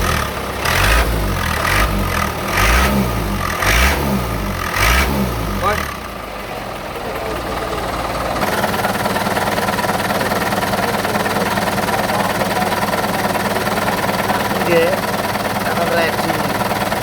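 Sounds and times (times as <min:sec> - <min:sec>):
diesel engine rattling exhaust: 0:00.0 - 0:17.0.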